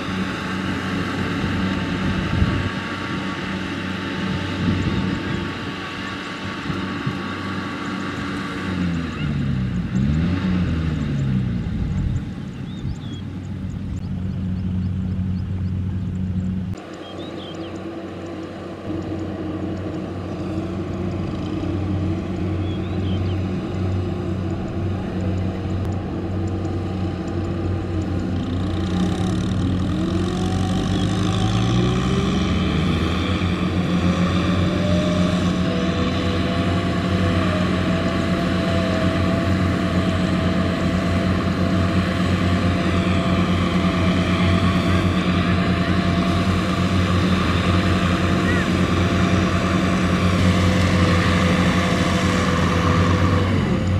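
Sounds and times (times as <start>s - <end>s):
engine revving up: 0.0s - 13.0s, 17.3s - 53.9s
diesel engines running: 0.0s - 53.9s.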